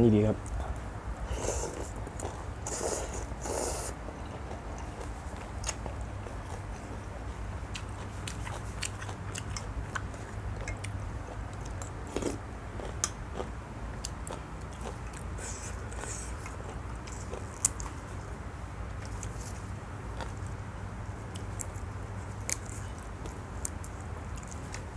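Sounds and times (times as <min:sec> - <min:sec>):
steady low hum: 0:00.0 - 0:24.9
chewing and crunching food: 0:00.4 - 0:24.9.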